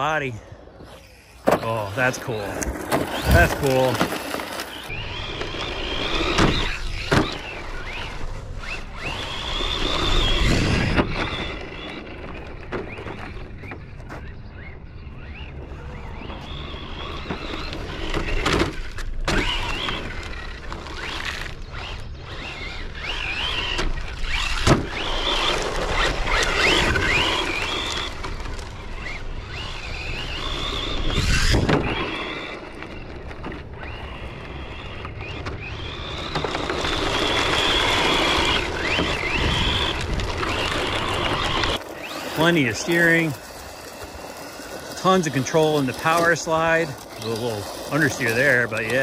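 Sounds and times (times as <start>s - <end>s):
electric motor whining: 0.0s - 49.0s
tyres rumbling on loose ground: 0.0s - 49.0s.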